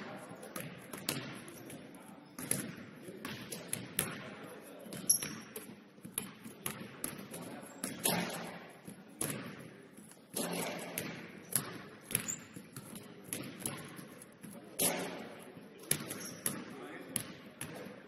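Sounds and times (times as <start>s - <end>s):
basketballs bouncing on wooden floor: 0.4s - 18.0s.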